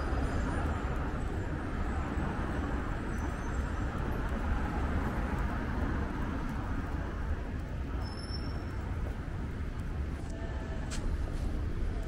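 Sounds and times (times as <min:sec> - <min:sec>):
road traffic rumble: 0:00.0 - 0:12.0
faint voices of passers-by: 0:00.1 - 0:12.0.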